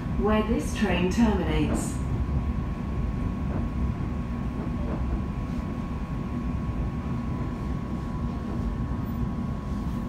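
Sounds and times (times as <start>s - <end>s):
thin steady whine: 0.0s - 10.0s
train interior rumble: 0.0s - 10.0s.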